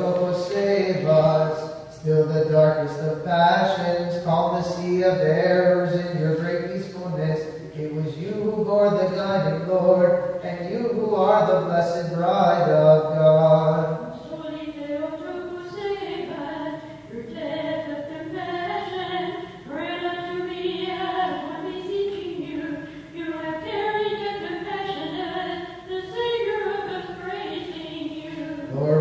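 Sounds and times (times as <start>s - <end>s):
unaccompanied voices singing a hymn: 0.0s - 29.0s.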